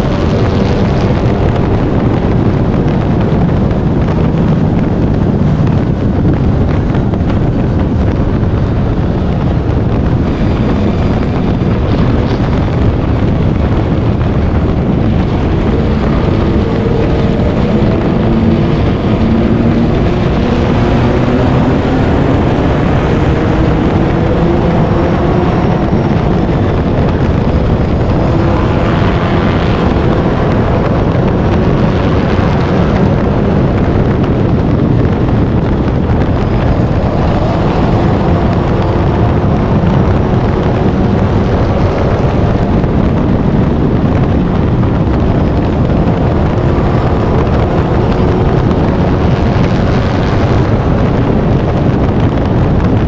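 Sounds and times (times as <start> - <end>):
race car engine revving: 0.0 - 53.0
wind and road noise: 0.0 - 53.0.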